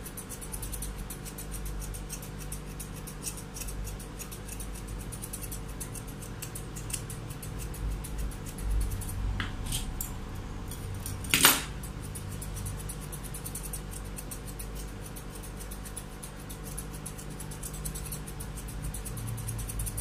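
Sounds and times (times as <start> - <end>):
scissors snipping fur: 0.0 - 20.0.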